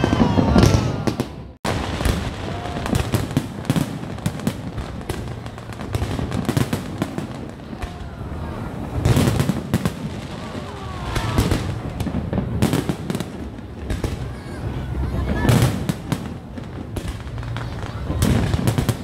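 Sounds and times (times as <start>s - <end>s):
fireworks bursting and crackling: 0.0s - 19.0s
loud fireworks bangs: 0.0s - 19.0s.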